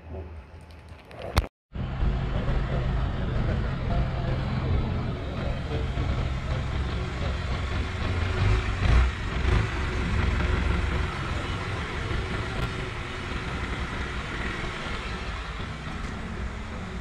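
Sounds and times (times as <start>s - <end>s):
outdoor street noise: 0.0s - 17.0s
vehicle engine rumbling: 0.0s - 17.0s.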